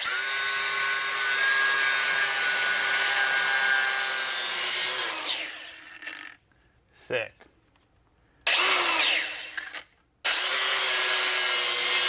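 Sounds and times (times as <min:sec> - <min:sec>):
power grinder cutting metal: 0:00.0 - 0:06.3, 0:08.5 - 0:12.0.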